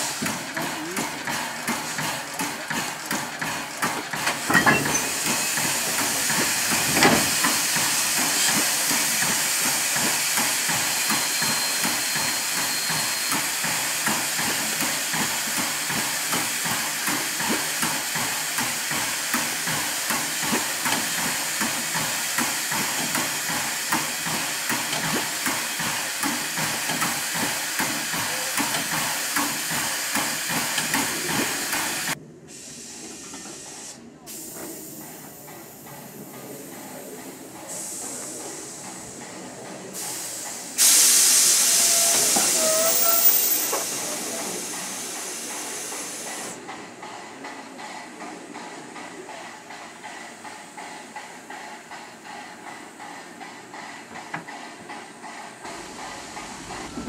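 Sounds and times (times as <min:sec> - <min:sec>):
steam hissing: 0:00.0 - 0:57.0.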